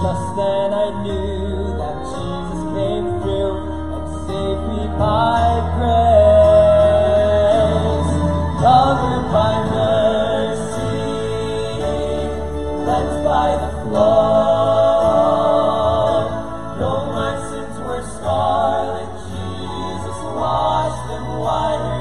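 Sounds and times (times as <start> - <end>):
men singing in harmony: 0.0 - 22.0.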